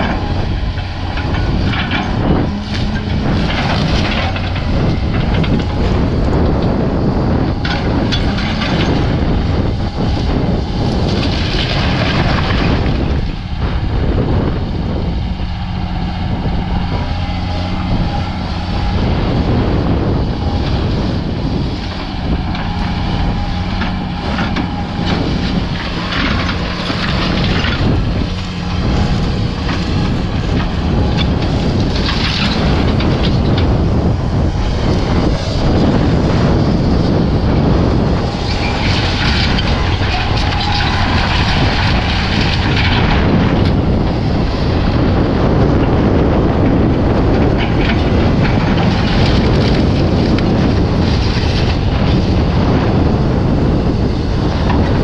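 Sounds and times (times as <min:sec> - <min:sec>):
debris clattering and crunching: 0:00.0 - 0:53.1
diesel heavy equipment engine drone: 0:00.0 - 0:55.0.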